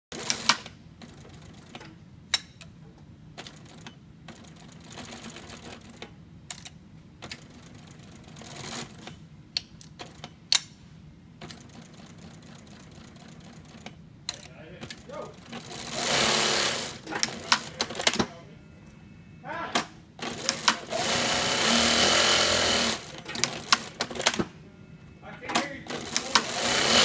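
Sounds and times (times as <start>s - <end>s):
steady low hum: 0.6s - 21.6s, 22.9s - 26.6s.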